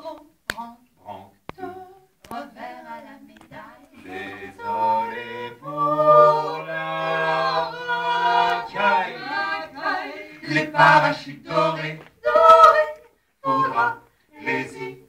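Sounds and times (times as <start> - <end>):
vocal quartet singing a cappella: 0.0 - 15.0.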